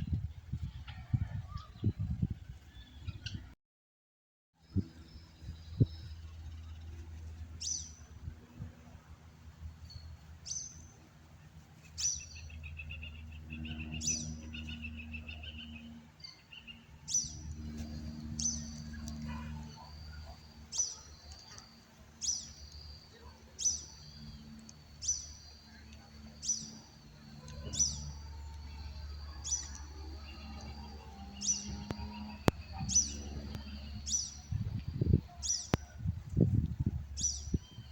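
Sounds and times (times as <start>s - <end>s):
low steady hum: 4.6s - 37.9s.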